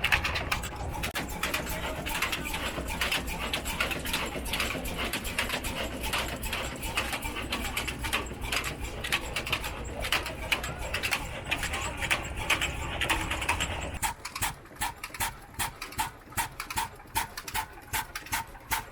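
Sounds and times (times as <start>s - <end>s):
diesel engine clattering: 0.0s - 18.9s.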